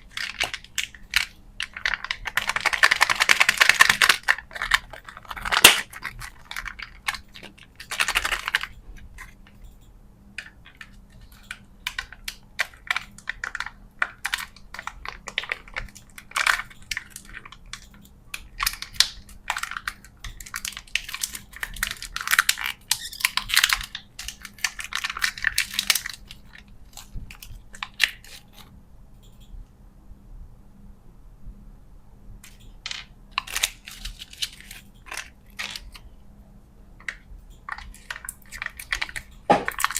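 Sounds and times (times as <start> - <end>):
plastic wrappers crinkling: 0.0 - 9.6, 10.4 - 28.7, 33.0 - 36.1, 37.0 - 39.9
packaging clicks and taps: 0.1 - 9.6, 10.4 - 28.6, 32.4 - 36.0, 37.0 - 39.9.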